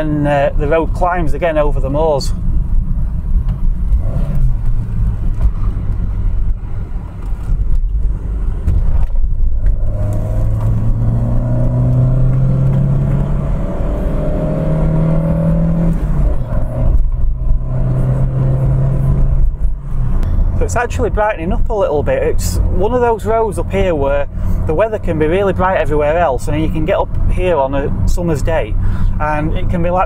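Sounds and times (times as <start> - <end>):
car engine accelerating: 0.0 - 30.0
road and wind rumble: 0.0 - 30.0.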